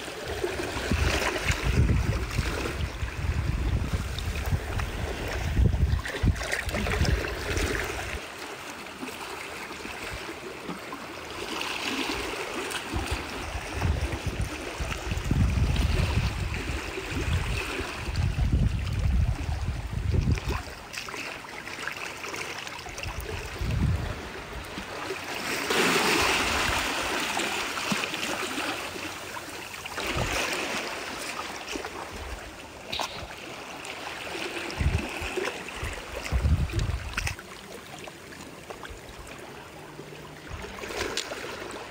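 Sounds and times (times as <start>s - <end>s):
seawater lapping over sand: 0.0s - 41.9s.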